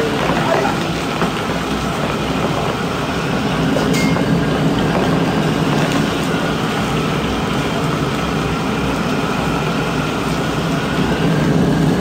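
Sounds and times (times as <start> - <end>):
gas burner rumbling: 0.0 - 12.0
oil bubbling: 0.0 - 12.0.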